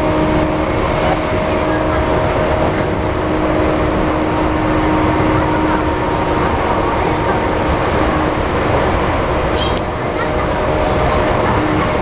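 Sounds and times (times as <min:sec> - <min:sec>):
traction motor tones: 0:00.0 - 0:12.0
train wheels rumbling on rails: 0:00.0 - 0:12.0.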